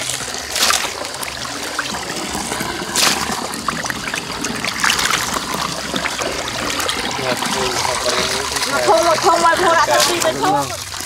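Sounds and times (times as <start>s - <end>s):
water splashing: 0.0s - 11.0s
water trickling into metal basin: 0.0s - 11.0s.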